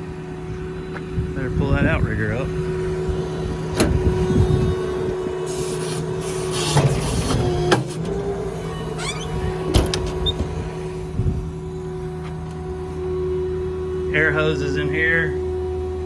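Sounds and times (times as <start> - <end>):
engine running: 0.0 - 16.0
hydraulic pump whine: 0.0 - 16.0.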